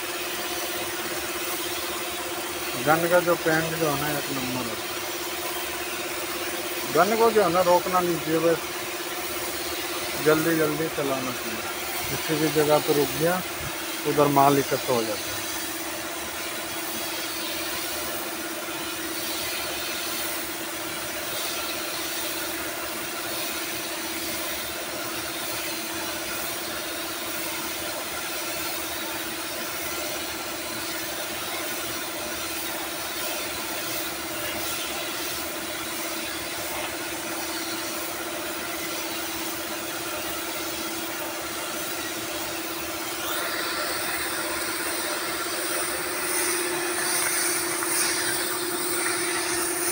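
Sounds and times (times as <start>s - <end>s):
air compressor humming: 0.0s - 49.9s
paint spray gun hissing: 0.0s - 49.9s.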